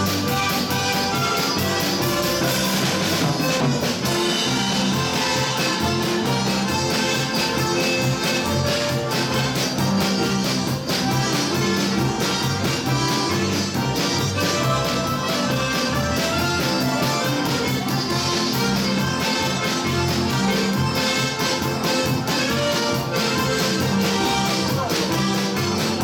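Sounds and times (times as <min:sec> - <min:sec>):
polka band with accordions: 0:00.0 - 0:26.0.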